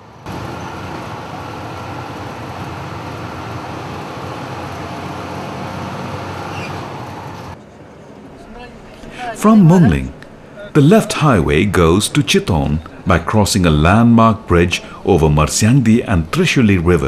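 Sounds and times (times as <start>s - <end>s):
road noise inside moving vehicle: 0.0s - 17.0s
vehicle engine rumble: 0.0s - 17.0s.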